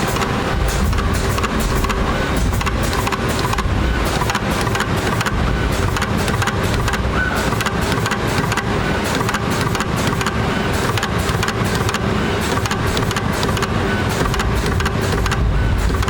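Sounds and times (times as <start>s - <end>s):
machine clicks and snaps: 0.0s - 16.0s
spot welding machine hum: 0.0s - 16.0s.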